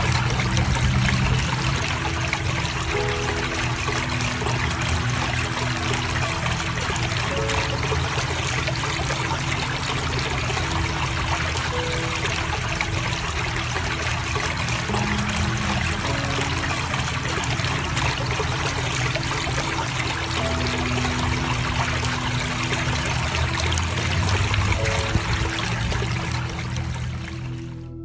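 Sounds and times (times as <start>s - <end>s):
water trickling over stone: 0.0s - 27.8s
fountain water bubbling: 0.0s - 28.0s.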